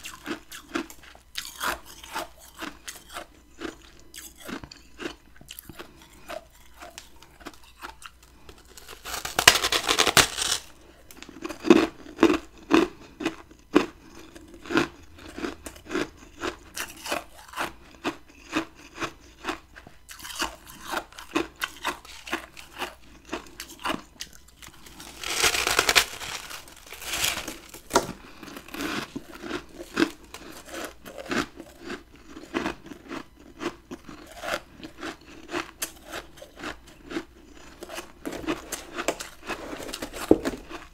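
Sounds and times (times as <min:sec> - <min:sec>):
chewing crunches: 0:00.0 - 0:40.9
crunching bite of ice: 0:00.0 - 0:40.9.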